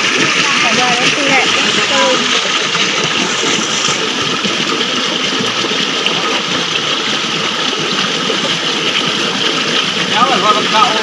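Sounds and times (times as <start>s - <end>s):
stream water rushing over rocks: 0.0s - 11.0s.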